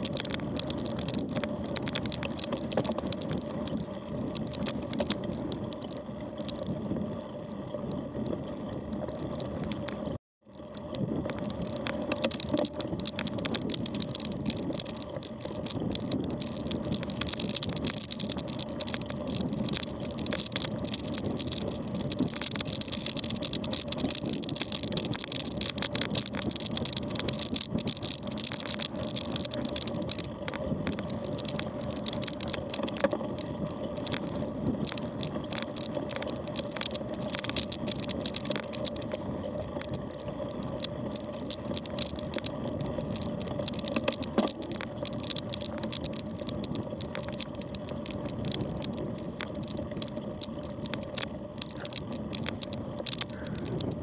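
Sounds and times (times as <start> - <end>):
bike clicks and rattles: 0.0 - 6.8, 8.9 - 54.0
bike tyre rumble: 0.0 - 54.0.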